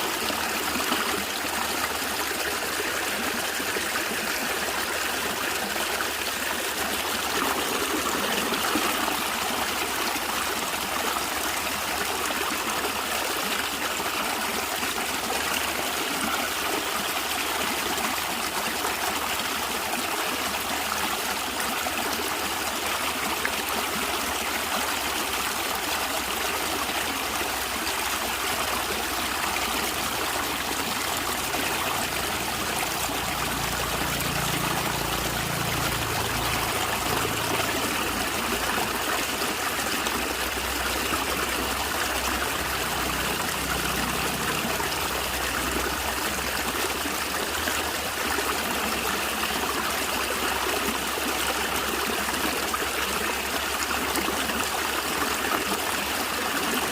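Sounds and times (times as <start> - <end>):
stream gurgling over stones: 0.0 - 56.9.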